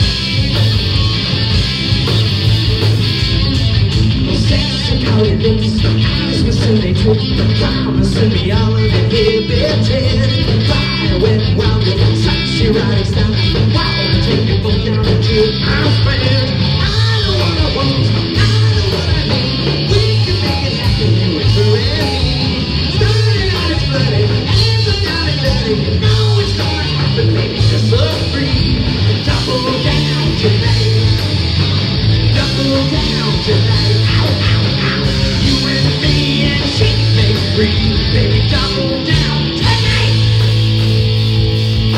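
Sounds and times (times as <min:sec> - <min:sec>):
hard rock band playing: 0:00.0 - 0:41.9
lead singer singing: 0:04.1 - 0:40.9.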